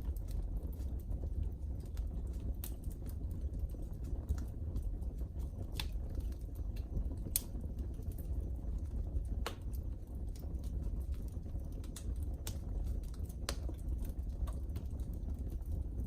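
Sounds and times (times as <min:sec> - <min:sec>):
sharp fire pops: 0:00.0 - 0:16.0
wood fire crackling: 0:00.0 - 0:16.0.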